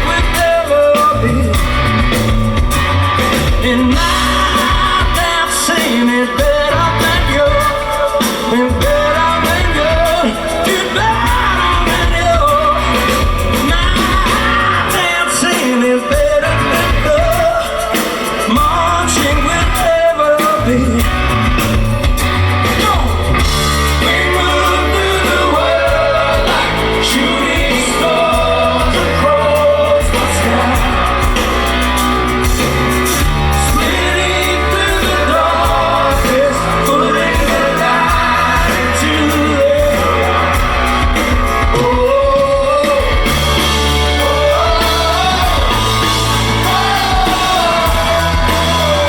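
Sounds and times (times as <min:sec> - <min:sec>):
person singing: 0:00.0 - 0:49.0
rock band playing live: 0:00.0 - 0:49.0.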